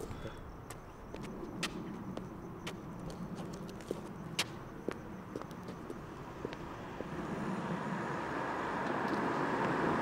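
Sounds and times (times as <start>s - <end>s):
car approaching: 1.0s - 10.0s.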